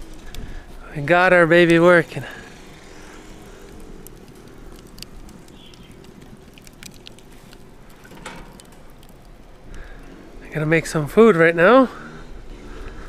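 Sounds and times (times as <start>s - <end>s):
charcoal crackling and popping: 0.0s - 13.0s.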